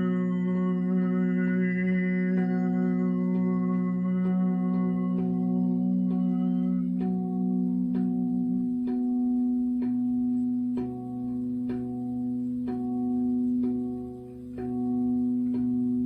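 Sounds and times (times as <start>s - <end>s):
sustained low hum: 0.0s - 16.0s
tuned metal instruments struck: 0.0s - 16.0s.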